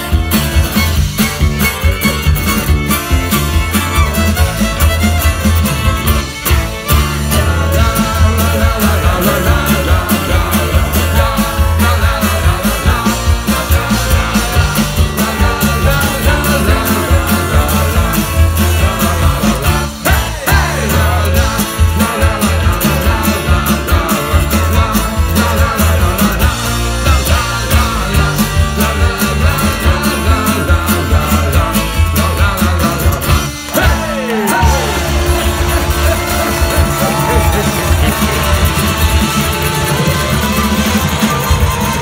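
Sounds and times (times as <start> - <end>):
live folk-rock band: 0.0 - 42.0.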